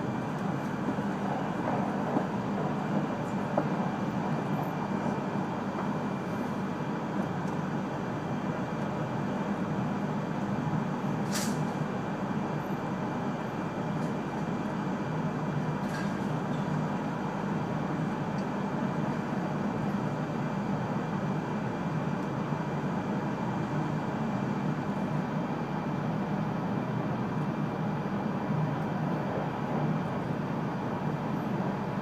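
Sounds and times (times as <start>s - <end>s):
train cabin running noise: 0.0s - 32.0s.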